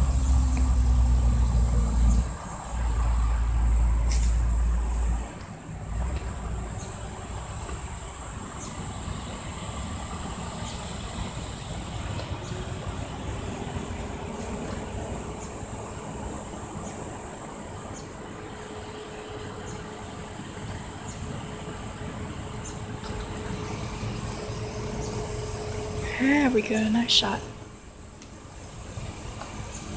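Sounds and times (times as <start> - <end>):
faint steady hum: 0.0 - 29.9
high-pitched insect trill: 0.0 - 29.9.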